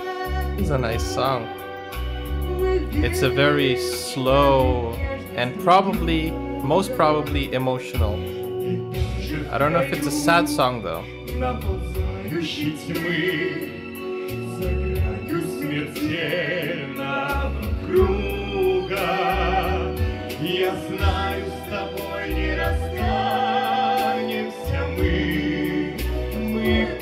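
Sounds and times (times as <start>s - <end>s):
person singing with vibrato: 0.0s - 27.0s.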